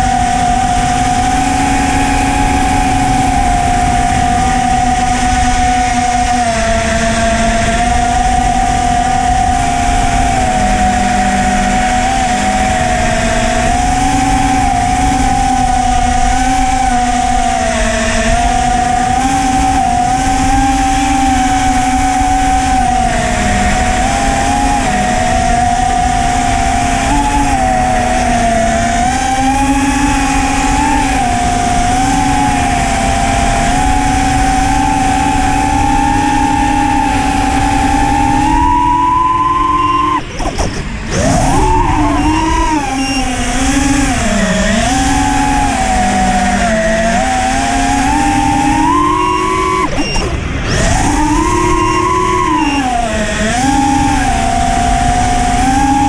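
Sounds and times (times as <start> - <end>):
quadcopter motors whining: 0.0 - 56.0
rushing wind noise: 0.0 - 56.0.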